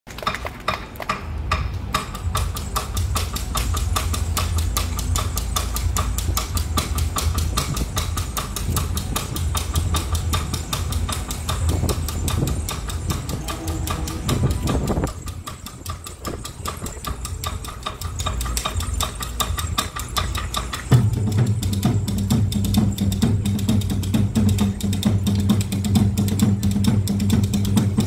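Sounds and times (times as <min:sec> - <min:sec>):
steady low rumble: 0:00.6 - 0:28.0
fast gong percussion: 0:01.5 - 0:28.0.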